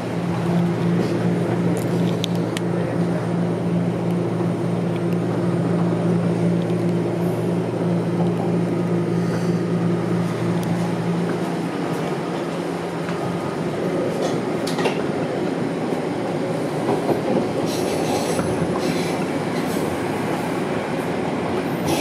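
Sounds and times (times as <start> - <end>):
subway train wheels rumbling: 0.0 - 22.0.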